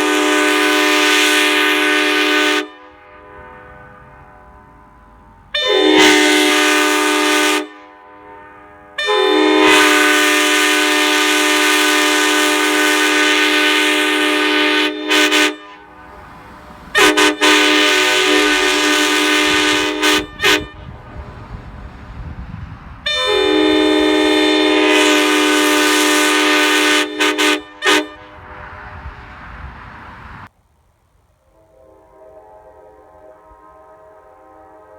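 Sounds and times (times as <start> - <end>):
locomotive air horn: 0.0 - 30.5, 31.4 - 34.9.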